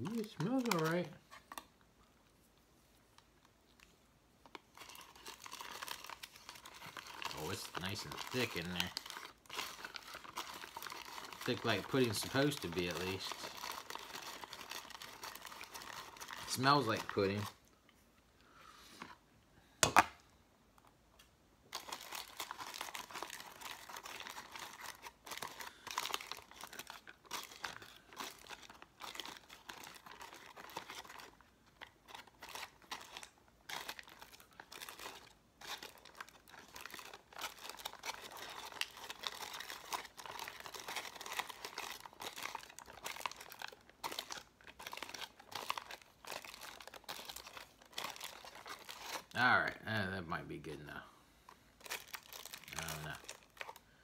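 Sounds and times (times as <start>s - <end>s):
plastic pouch crinkling: 0.0s - 1.7s, 3.2s - 17.7s, 21.7s - 50.8s, 51.8s - 54.0s.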